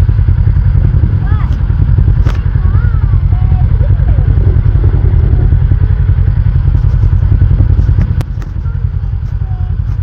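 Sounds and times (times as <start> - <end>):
engine running hard under load: 0.0 - 10.0.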